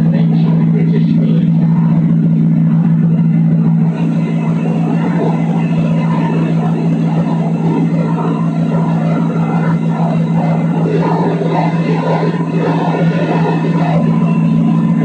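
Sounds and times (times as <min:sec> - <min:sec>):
motorboat engine drone: 0:00.0 - 0:15.0.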